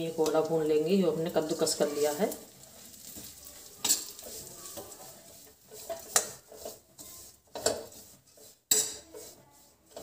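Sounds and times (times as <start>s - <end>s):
spatula scraping a steel pan: 1.1s - 10.0s.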